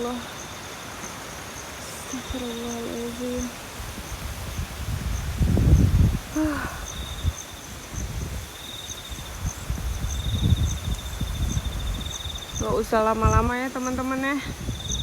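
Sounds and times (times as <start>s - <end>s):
insects trilling and chirping: 0.0s - 15.0s
wind buffeting microphone: 1.6s - 15.0s.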